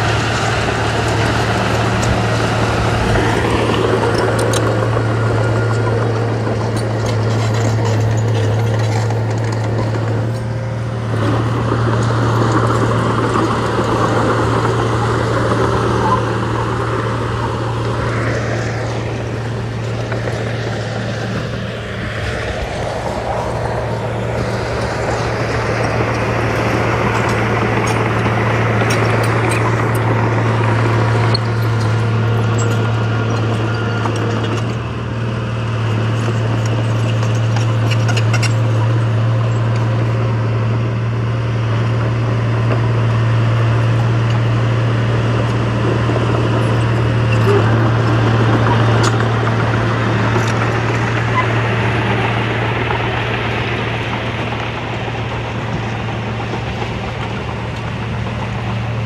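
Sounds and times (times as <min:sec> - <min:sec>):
heavy diesel engine humming: 0:00.0 - 0:59.0.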